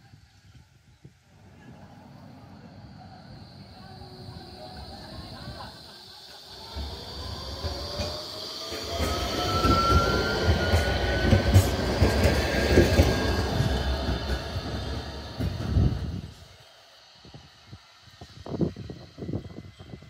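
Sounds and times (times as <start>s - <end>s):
tram wheels rumbling on rails: 0.2s - 20.0s.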